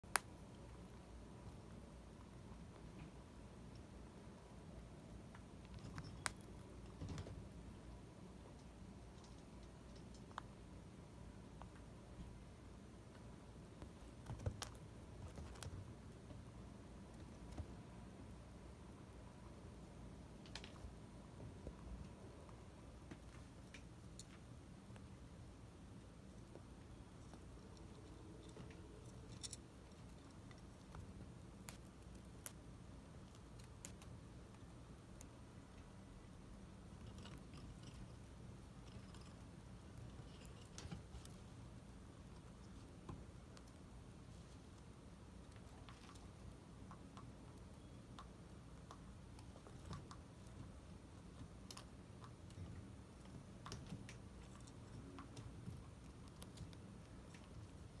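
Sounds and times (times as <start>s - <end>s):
low steady hum: 0.0s - 58.0s
chinchilla chewing: 0.1s - 58.0s.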